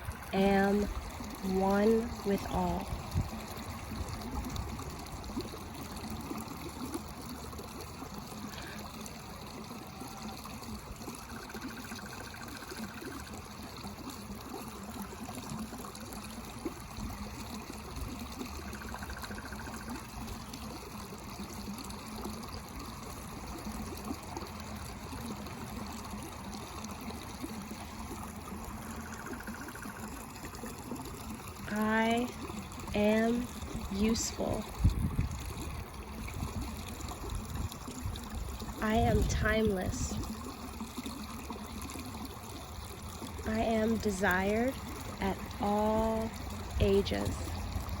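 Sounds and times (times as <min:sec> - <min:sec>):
water trickling: 0:00.0 - 0:48.0.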